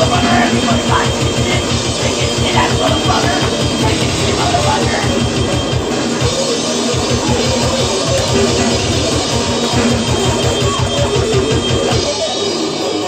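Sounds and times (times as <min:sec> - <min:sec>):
fast kick-drum beats: 0:00.0 - 0:13.0
guitar: 0:00.0 - 0:13.0
loud rock music: 0:00.0 - 0:13.0.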